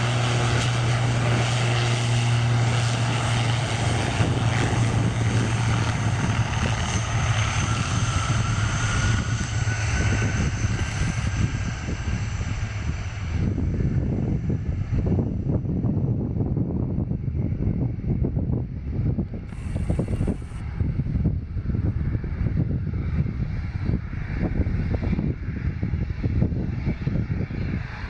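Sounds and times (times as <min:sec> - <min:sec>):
turboprop propellers droning: 0:00.0 - 0:28.0.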